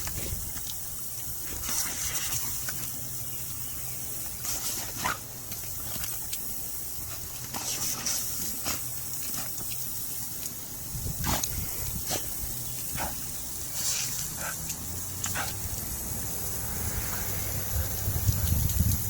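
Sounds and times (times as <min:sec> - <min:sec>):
lawn sprinkler spraying water: 0:00.0 - 0:19.0.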